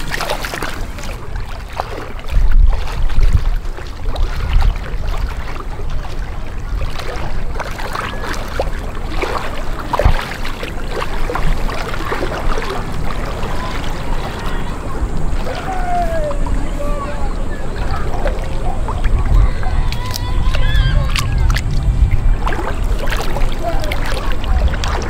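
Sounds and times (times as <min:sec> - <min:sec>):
water washing against rocks: 0:00.0 - 0:25.0
wind on microphone: 0:00.0 - 0:25.0.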